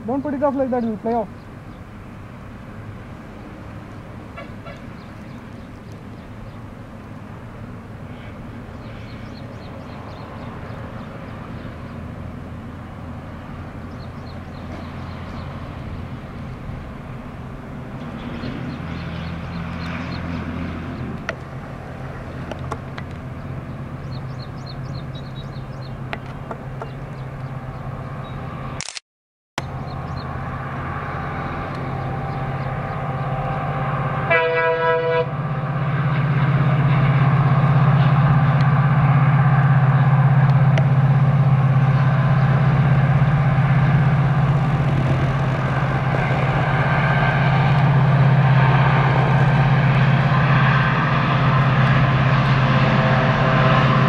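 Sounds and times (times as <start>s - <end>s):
diesel locomotive engine drone: 0.0s - 29.0s, 29.6s - 54.0s.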